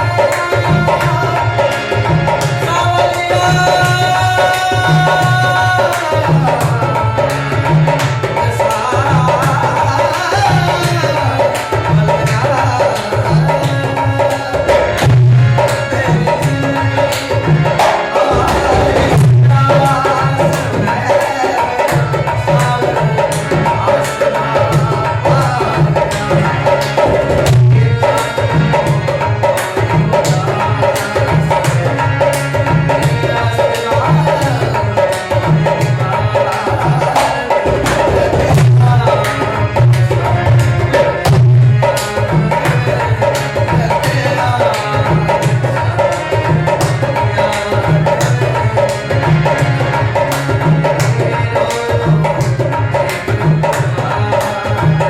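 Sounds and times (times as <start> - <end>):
hand drums: 0.0 - 55.0.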